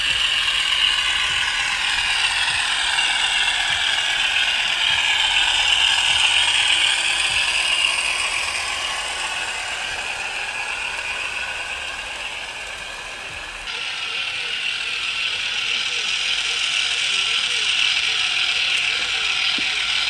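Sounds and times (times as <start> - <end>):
diesel engine sound effect: 0.0 - 20.0
model train rattling: 0.0 - 20.0.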